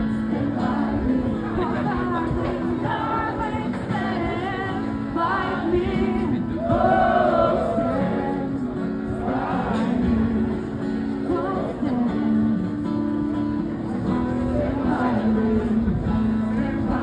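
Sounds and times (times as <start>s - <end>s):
woman singing: 0.0s - 13.2s, 14.6s - 17.0s
strummed acoustic guitar: 0.0s - 17.0s.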